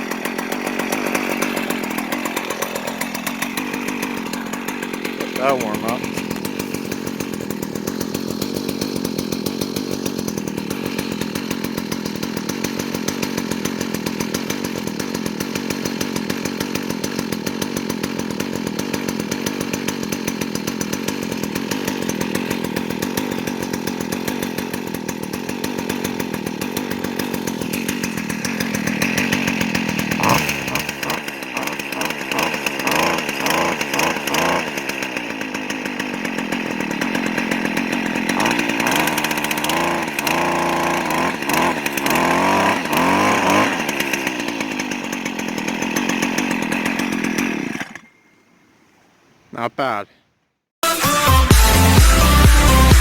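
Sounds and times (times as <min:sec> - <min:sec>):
chainsaw engine running: 0:00.0 - 0:48.1, 0:50.8 - 0:53.0.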